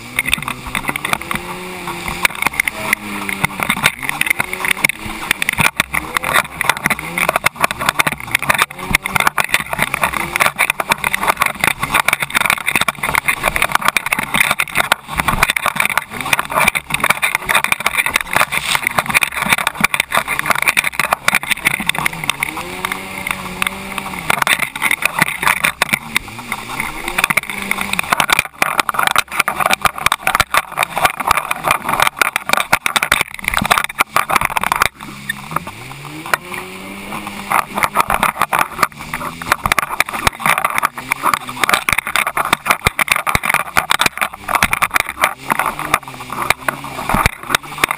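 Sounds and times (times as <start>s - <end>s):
jet ski engine: 0.0s - 47.9s
water splashing: 0.0s - 47.9s.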